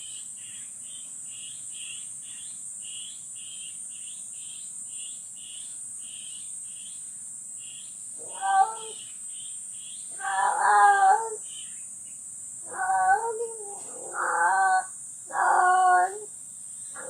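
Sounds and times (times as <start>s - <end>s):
insects droning: 0.0s - 17.0s
rhythmic insect chirp: 0.0s - 17.0s.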